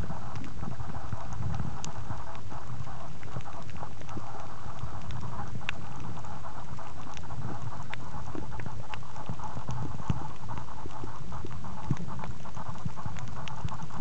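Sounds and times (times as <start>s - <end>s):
muffled underwater rumble and hiss: 0.0s - 14.0s.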